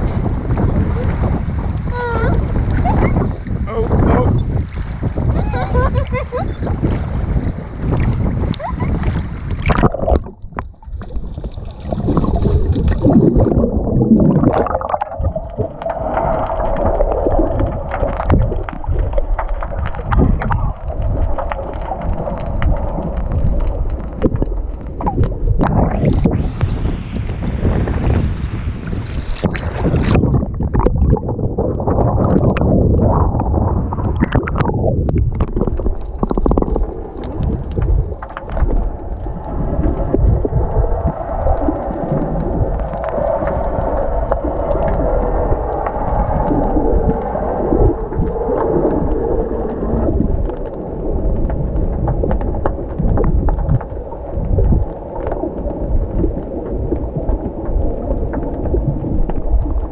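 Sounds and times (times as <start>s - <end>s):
muffled underwater rumble: 0.0s - 59.9s
water splashing over microphone: 0.0s - 59.9s.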